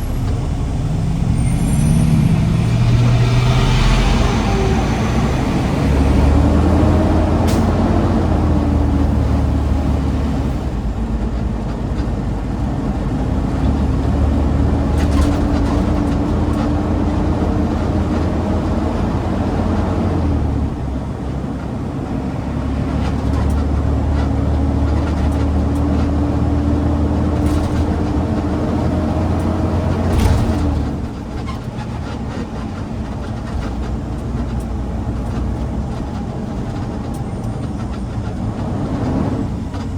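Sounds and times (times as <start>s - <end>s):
garbage truck engine: 0.0s - 39.9s.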